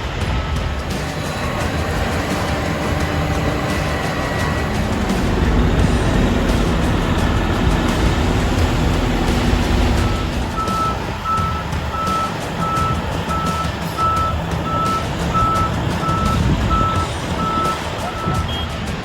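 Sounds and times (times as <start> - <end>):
truck engine rumbling: 0.0 - 19.0
truck reversing alarm beeping: 0.0 - 19.0.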